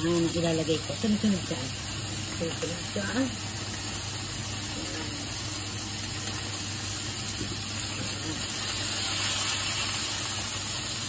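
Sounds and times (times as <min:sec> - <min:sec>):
onions sizzling in frying pan: 0:00.0 - 0:11.0.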